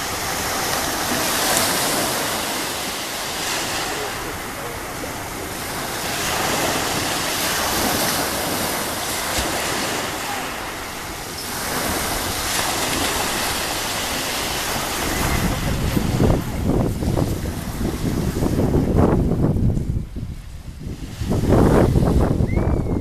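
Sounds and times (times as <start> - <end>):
waves washing onto shore: 0.0 - 23.0
wind buffeting microphone: 0.0 - 23.0.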